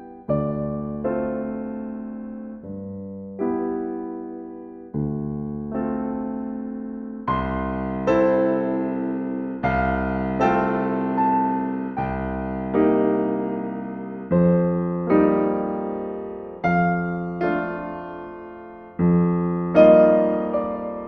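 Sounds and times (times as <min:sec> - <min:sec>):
slow gentle solo piano: 0:00.0 - 0:21.0.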